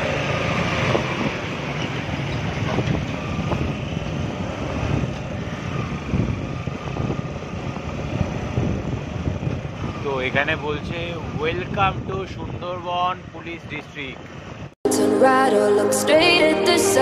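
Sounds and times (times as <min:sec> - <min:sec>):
motorcycle engine and road noise: 0:00.0 - 0:14.8
wind buffeting microphone: 0:00.5 - 0:14.8.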